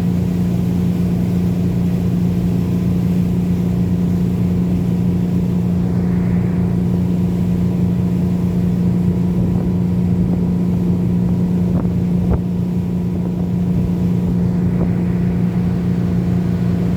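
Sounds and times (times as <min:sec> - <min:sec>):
motor boat engine running: 0:00.0 - 0:16.9.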